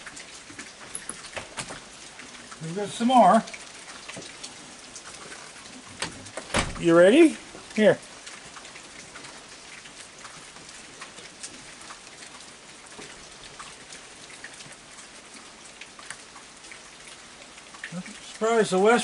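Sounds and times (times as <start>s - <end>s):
heavy rain falling: 0.0s - 19.0s
raindrop ticks: 0.0s - 19.0s.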